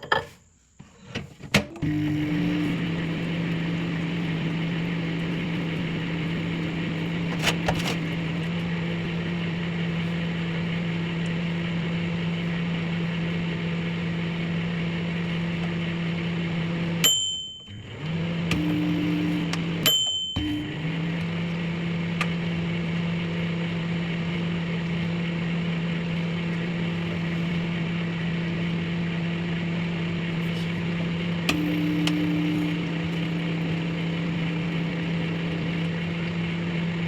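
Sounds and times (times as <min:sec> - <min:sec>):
microwave oven humming: 0:01.0 - 0:37.0.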